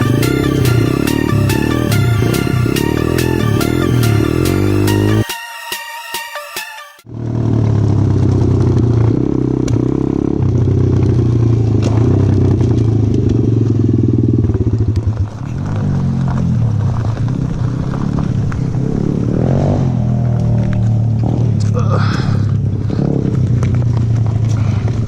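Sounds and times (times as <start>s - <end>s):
motorbike engine revving: 0.0s - 5.3s, 7.0s - 25.0s.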